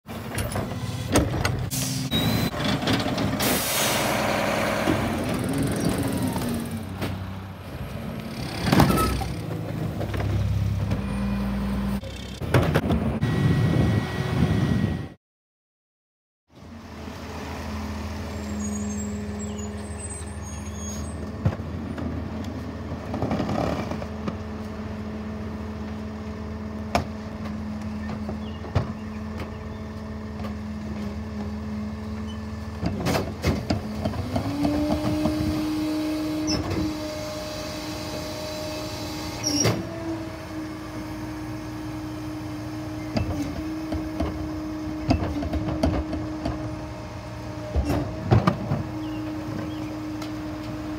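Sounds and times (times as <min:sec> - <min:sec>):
garbage truck diesel engine: 0:00.0 - 0:15.2, 0:16.5 - 0:50.9.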